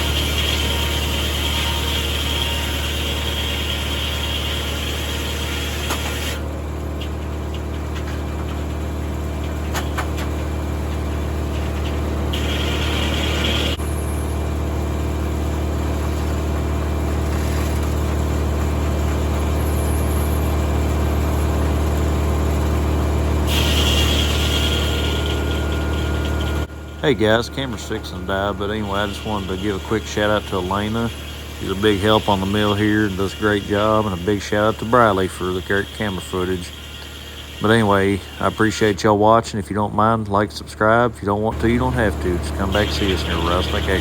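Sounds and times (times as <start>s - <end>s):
circular saw high whine: 0.0s - 6.6s, 10.3s - 44.0s
tractor engine running: 0.0s - 44.0s.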